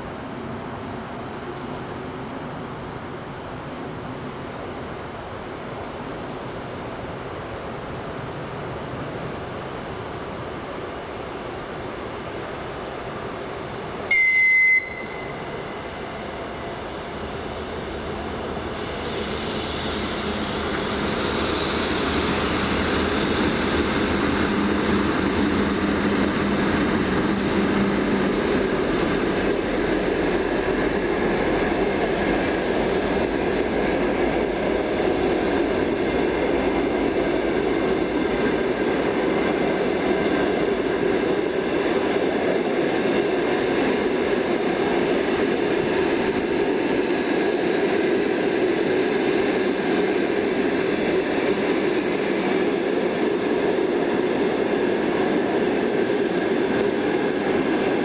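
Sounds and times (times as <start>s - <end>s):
diesel locomotive engine: 0.0s - 58.0s
train wheels on rails: 0.0s - 58.0s.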